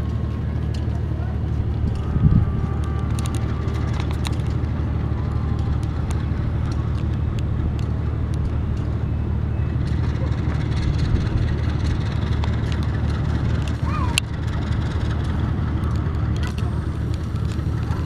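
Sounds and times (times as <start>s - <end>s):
distant trains rumbling: 0.0s - 18.0s.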